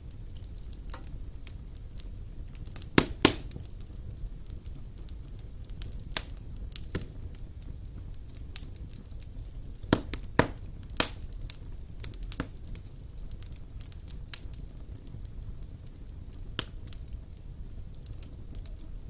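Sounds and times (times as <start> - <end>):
logs popping and crackling: 0.0 - 19.0
low rumble of flames: 0.0 - 19.0.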